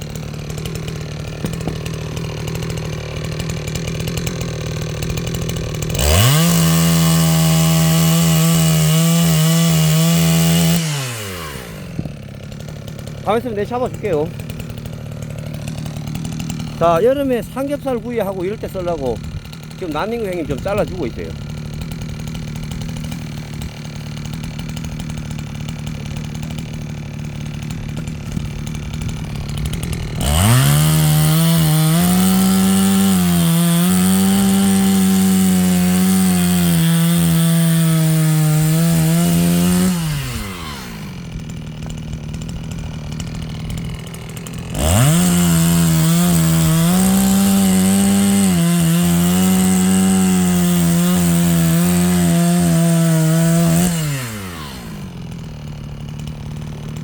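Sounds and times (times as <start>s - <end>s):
chainsaw cutting through logs: 0.0s - 57.0s
chainsaw idling: 0.0s - 57.0s.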